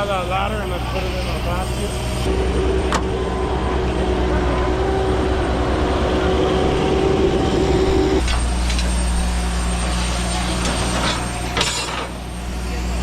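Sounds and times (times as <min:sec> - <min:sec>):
high steady whine: 0:00.0 - 0:13.0
machine engine humming: 0:00.0 - 0:13.0.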